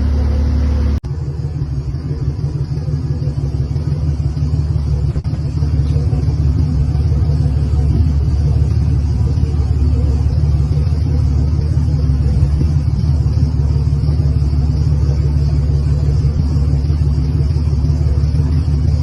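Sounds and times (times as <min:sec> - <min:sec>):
boat engines droning: 0:00.0 - 0:19.0.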